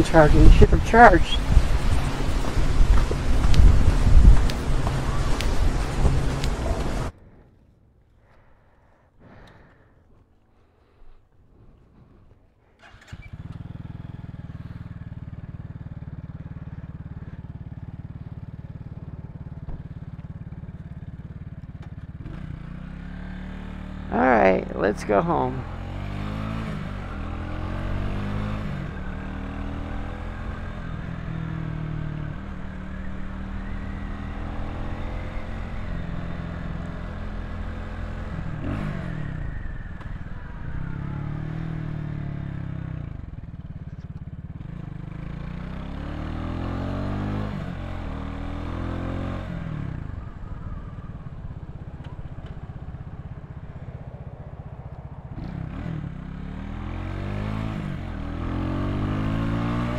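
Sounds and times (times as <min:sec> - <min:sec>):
motorcycle engine accelerating: 0:00.0 - 0:07.2, 0:11.6 - 0:59.9.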